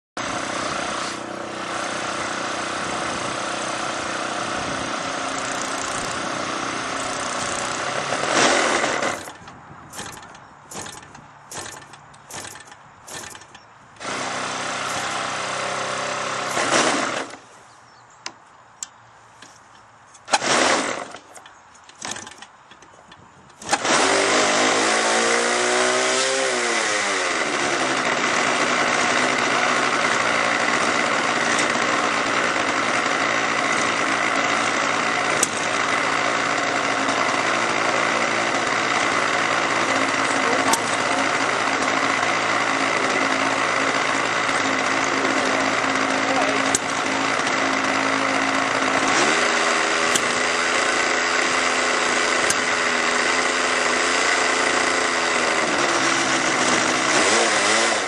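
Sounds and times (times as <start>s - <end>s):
model aircraft engine: 0.2s - 18.0s, 20.2s - 22.9s, 23.6s - 58.0s.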